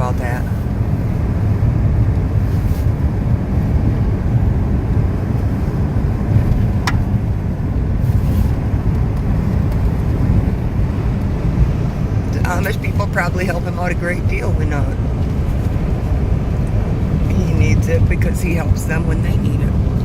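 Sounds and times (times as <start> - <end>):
car driving rumble inside cabin: 0.0 - 20.0.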